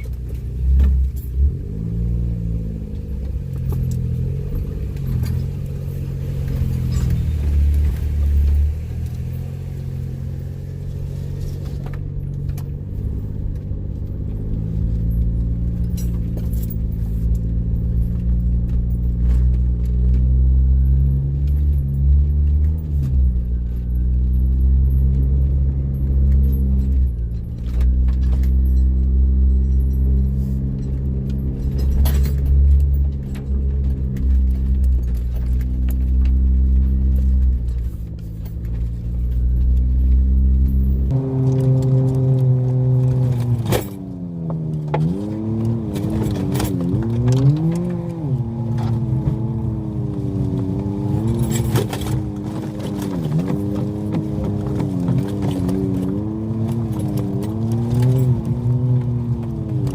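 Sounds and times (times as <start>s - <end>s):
vehicle engine running: 0.0s - 59.9s
vehicle rattling and knocks: 0.0s - 59.9s.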